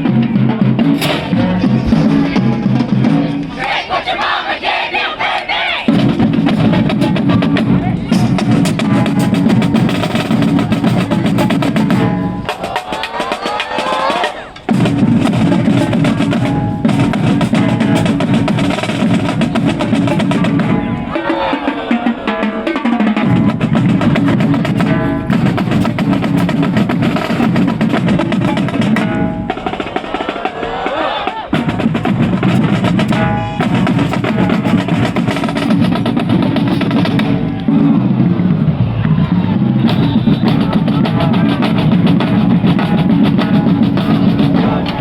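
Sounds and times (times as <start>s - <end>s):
snare and bass drums: 0.0s - 3.8s, 5.9s - 45.0s
marching band playing: 0.0s - 45.0s.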